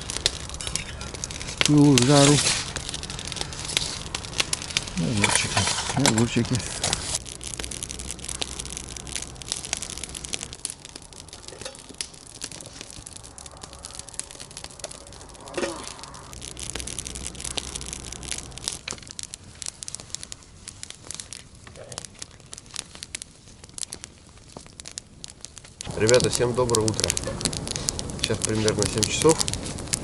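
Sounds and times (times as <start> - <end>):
wood campfire crackling: 0.0 - 30.0.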